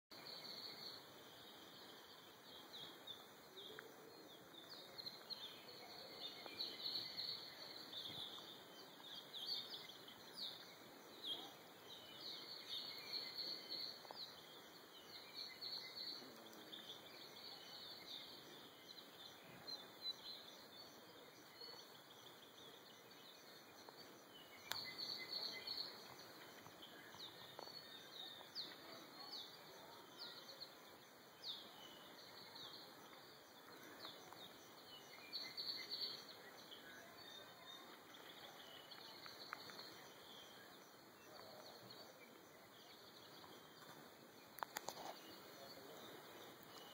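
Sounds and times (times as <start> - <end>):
birds chirping and trilling: 0.1 - 46.9.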